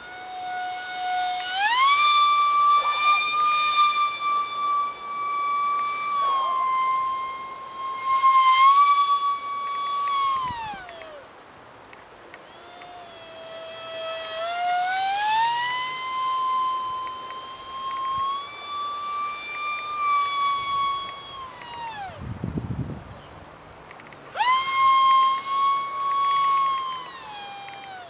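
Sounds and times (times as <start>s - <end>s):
electric fan whining: 0.0s - 28.0s.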